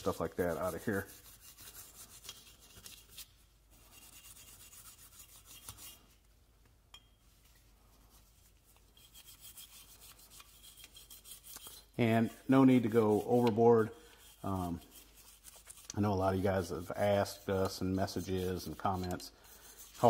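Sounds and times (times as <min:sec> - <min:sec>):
brush scrubbing metal: 0:00.0 - 0:06.2, 0:08.0 - 0:20.0.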